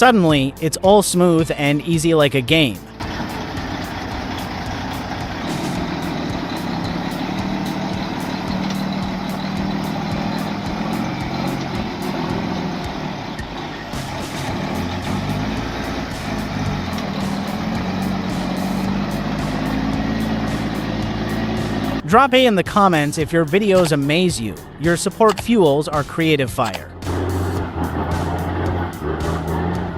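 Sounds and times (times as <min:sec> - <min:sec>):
heavy machine engine running: 0:02.8 - 0:25.4, 0:26.8 - 0:29.9.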